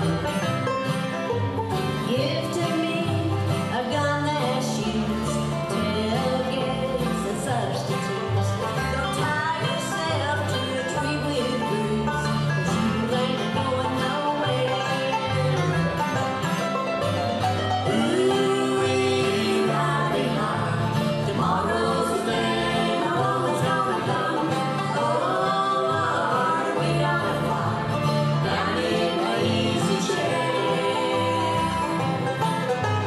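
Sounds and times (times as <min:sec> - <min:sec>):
bluegrass band playing: 0:00.0 - 0:33.0
upright bass walking line: 0:00.0 - 0:33.0.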